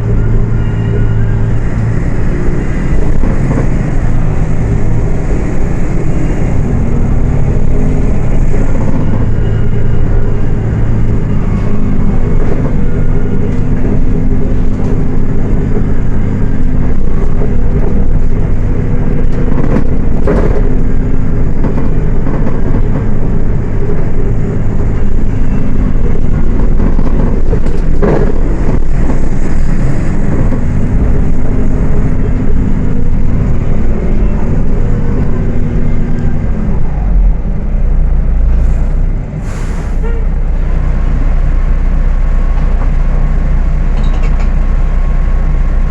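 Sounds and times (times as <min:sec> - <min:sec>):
bus diesel engine droning: 0:00.0 - 0:45.9.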